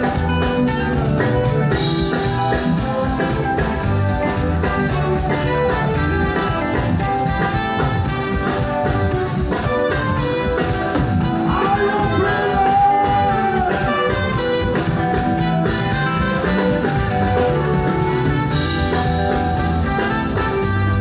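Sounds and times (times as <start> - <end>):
instrumental music: 0.0 - 21.0.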